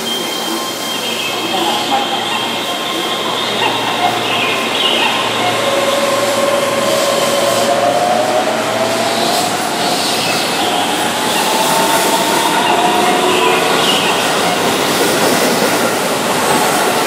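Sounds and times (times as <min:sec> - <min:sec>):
electric train running rumble: 0:00.0 - 0:17.0
train motor whine: 0:01.9 - 0:17.0.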